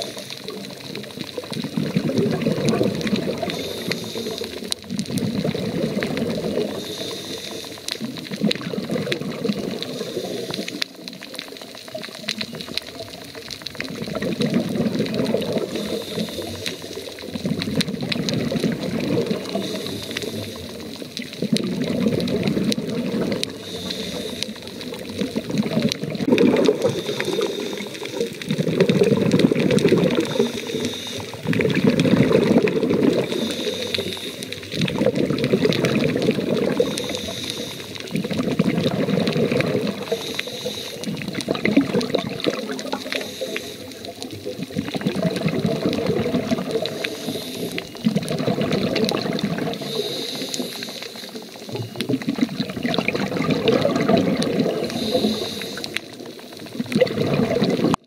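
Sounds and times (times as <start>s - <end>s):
underwater air bubbling: 0.0s - 58.0s.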